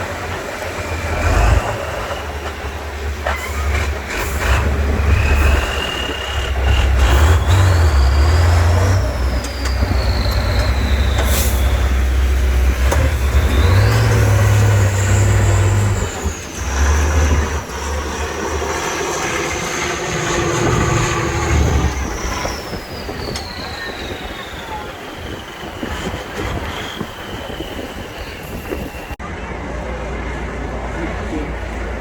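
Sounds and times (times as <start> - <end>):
diesel truck engine rumbling: 0.0 - 32.0.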